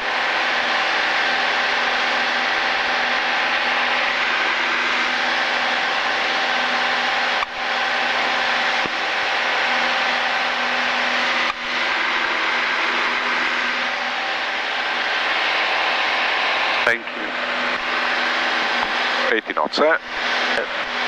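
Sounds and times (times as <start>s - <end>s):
light aircraft engine drone: 0.0s - 21.0s.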